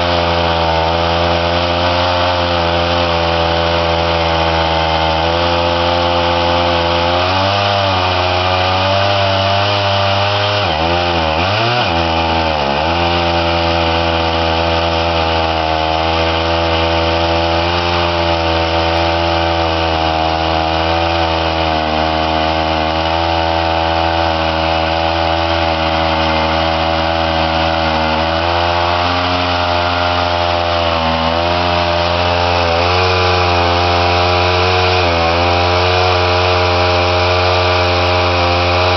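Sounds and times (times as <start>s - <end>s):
chainsaw engine cutting lumber: 0.0s - 38.9s.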